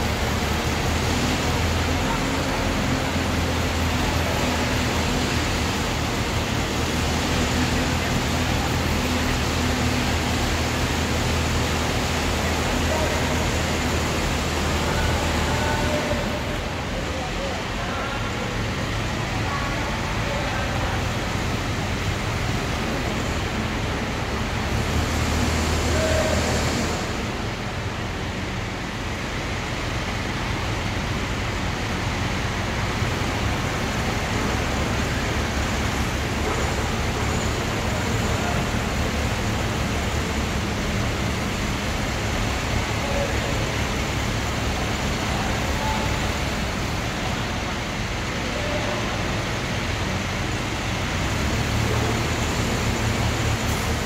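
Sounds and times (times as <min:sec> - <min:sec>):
diesel crane engines running: 0:00.0 - 0:54.0.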